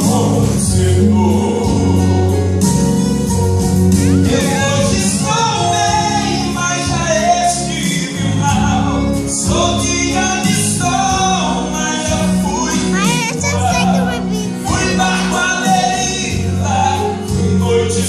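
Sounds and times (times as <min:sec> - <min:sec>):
man singing into a microphone: 0:00.0 - 0:02.6, 0:04.1 - 0:18.0
instrumental accompaniment: 0:00.0 - 0:18.0.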